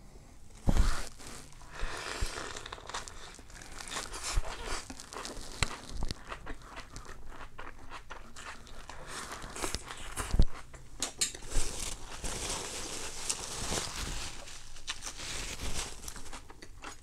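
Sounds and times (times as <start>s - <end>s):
crispy pancake crunching: 0.6s - 10.7s, 11.4s - 17.0s.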